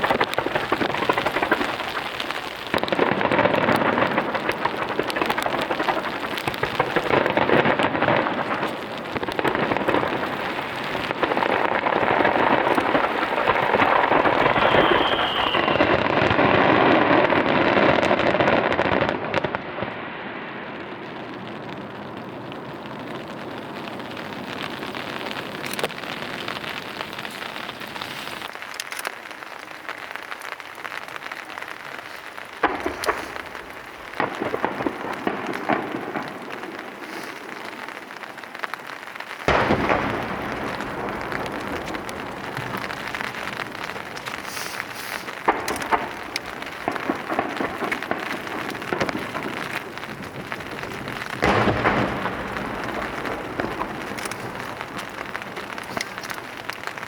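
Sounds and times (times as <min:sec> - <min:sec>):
fireworks hiss: 0:00.0 - 0:21.4, 0:23.0 - 0:57.0
fireworks bursting and crackling: 0:00.0 - 0:57.0.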